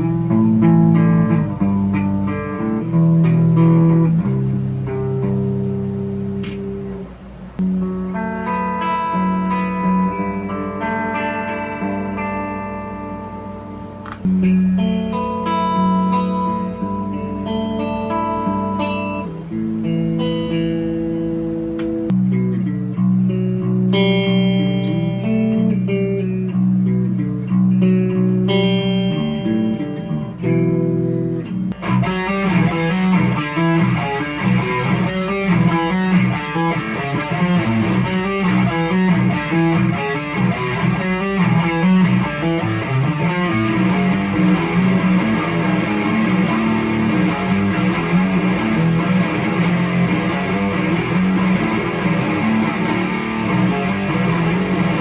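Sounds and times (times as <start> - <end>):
electric guitar through an amp: 0.0 - 55.0.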